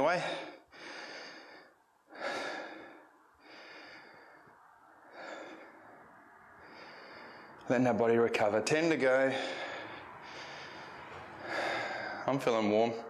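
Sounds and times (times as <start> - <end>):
man breathing hard: 0.0 - 7.7, 8.8 - 13.0.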